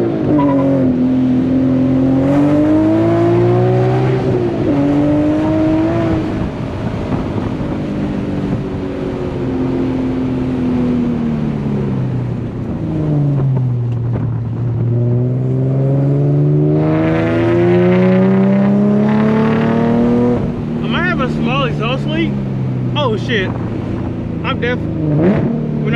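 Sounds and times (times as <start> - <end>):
car engine while driving: 0.0 - 25.9.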